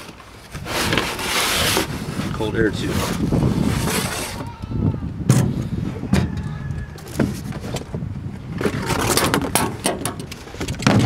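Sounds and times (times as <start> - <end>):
scraping and rustling: 0.0 - 4.6, 5.4 - 11.0.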